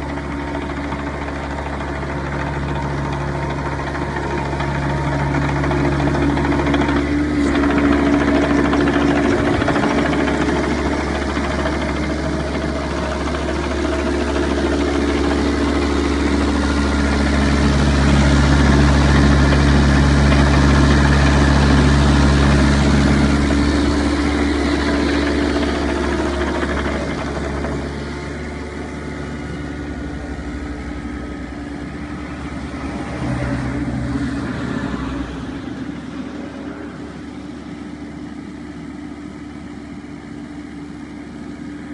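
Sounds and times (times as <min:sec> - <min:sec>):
excavator diesel engine idling: 0:00.0 - 0:41.9.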